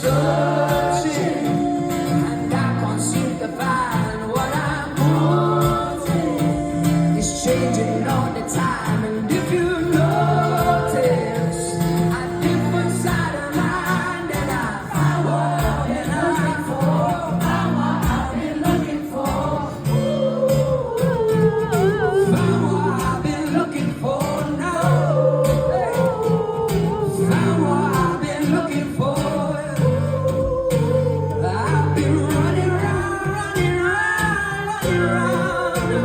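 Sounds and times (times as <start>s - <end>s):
acoustic guitar strumming chords: 0.0s - 36.0s
crowd singing along: 0.0s - 36.0s.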